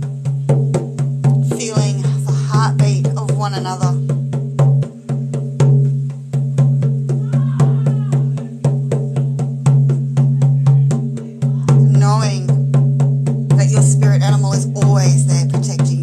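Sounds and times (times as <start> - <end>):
frame drum booming: 0.0 - 16.0.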